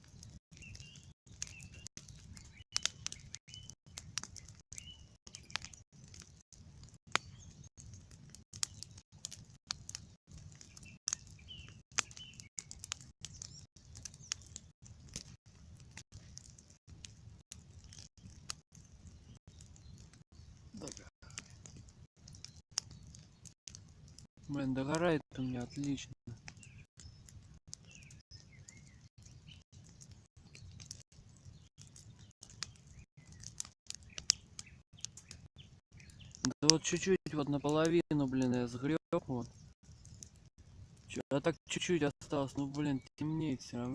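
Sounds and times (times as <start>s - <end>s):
bonfire crackling and popping: 0.0s - 43.9s
small birds chirping: 0.0s - 43.9s.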